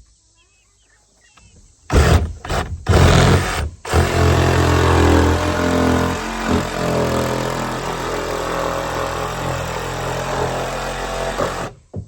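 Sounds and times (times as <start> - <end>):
power saw cutting: 1.9 - 11.8.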